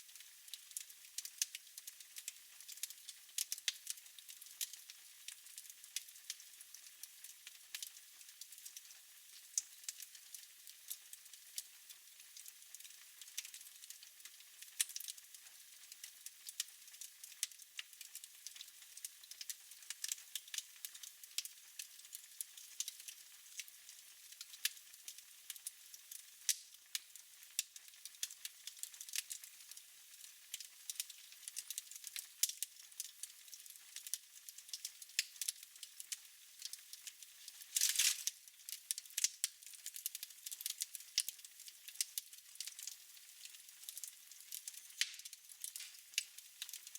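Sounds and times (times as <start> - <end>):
fire crackling and popping: 0.1 - 46.9.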